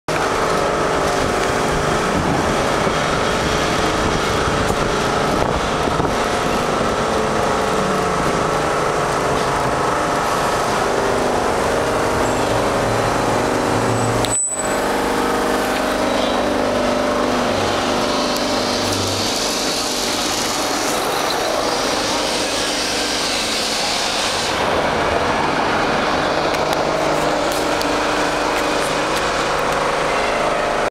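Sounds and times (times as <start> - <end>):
tram motor and wheels on rails: 0.1 - 30.9.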